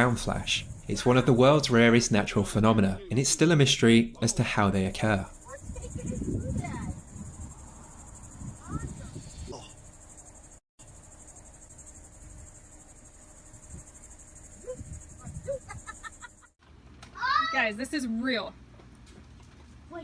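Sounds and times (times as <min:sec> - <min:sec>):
crickets chirring: 0:00.0 - 0:16.6.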